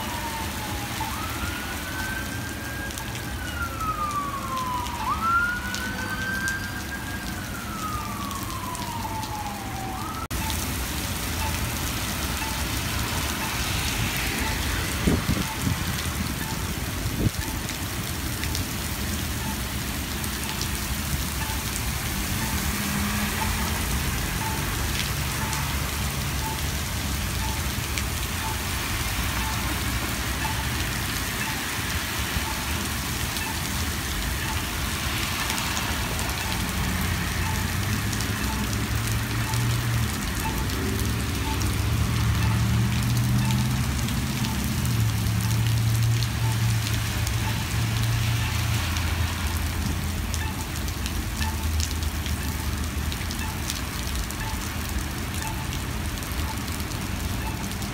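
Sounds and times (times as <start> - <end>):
heavy rain on pavement: 0.0 - 57.9.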